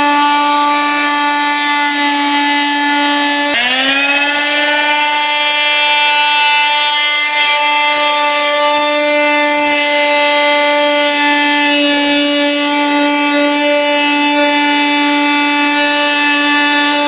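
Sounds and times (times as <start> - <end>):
power saw cutting wood: 0.0 - 17.0.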